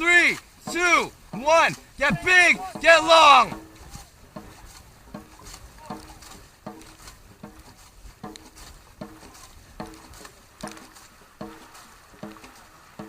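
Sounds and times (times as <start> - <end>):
paddles knocking and splashing: 0.0 - 13.0.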